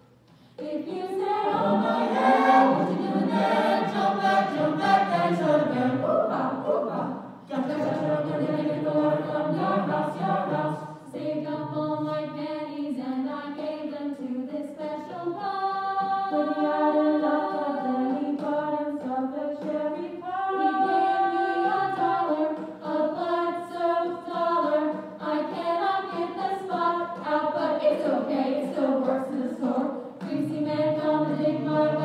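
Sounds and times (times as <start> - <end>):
mixed choir singing a cappella: 0.6 - 32.0.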